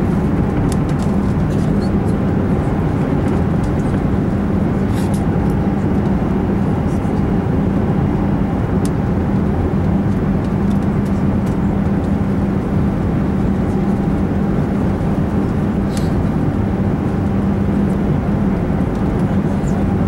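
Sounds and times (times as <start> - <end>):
airplane cabin engine roar: 0.0 - 20.0
constant low hum: 0.0 - 20.0.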